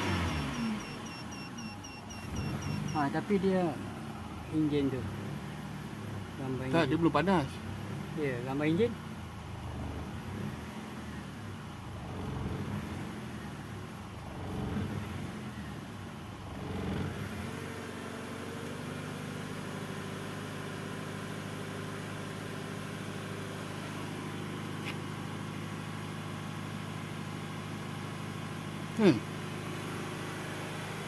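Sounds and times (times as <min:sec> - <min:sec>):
car engine idling: 0:00.0 - 0:18.5, 0:19.2 - 0:31.0.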